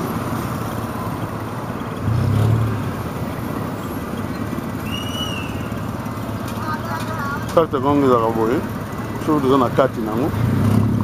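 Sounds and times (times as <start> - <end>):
vehicle engine and traffic noise: 0.0 - 11.0.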